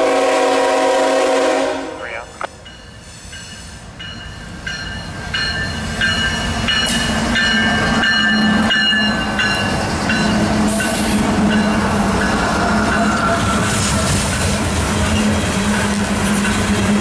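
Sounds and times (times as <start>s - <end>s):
diesel locomotive engine drone: 0.0s - 17.0s
freight train rumble: 0.0s - 17.0s.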